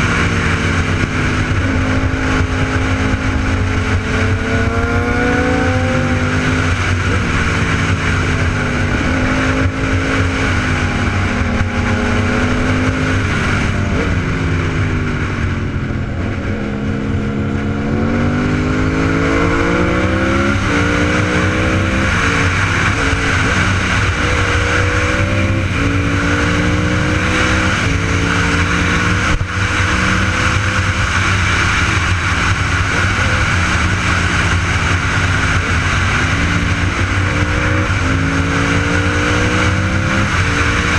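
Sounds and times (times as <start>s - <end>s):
motorbike engine revving: 0.0s - 40.9s
wind and road noise: 0.0s - 40.9s.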